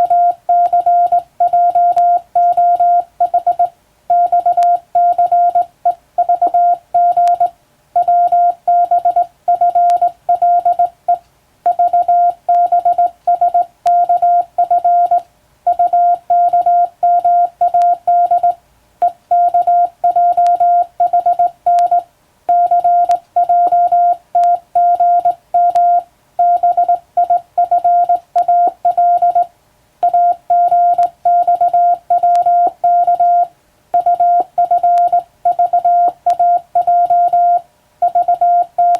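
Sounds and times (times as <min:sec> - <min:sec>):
morse code beeps: 0:00.0 - 0:38.9.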